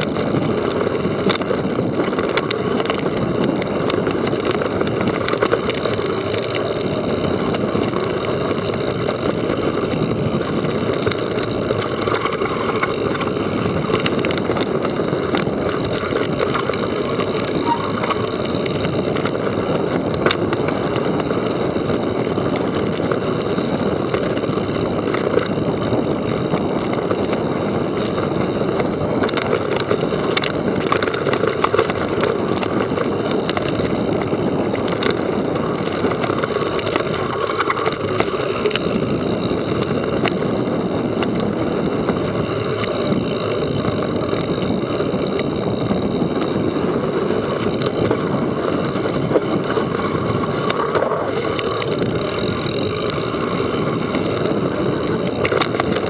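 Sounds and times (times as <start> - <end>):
bike clicks and rattles: 0.0 - 56.0
tyre and wind noise: 0.0 - 56.0.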